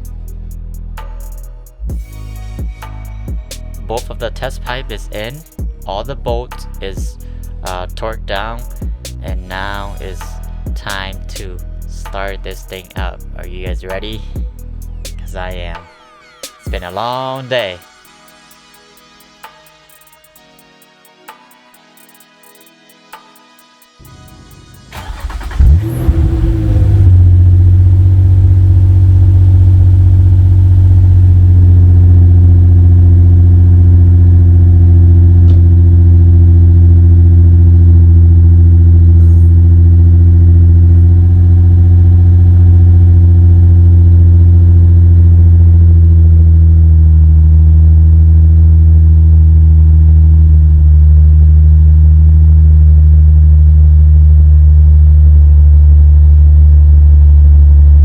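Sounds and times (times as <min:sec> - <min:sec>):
car engine starting and idling: 0:00.0 - 0:15.8, 0:24.0 - 0:58.0.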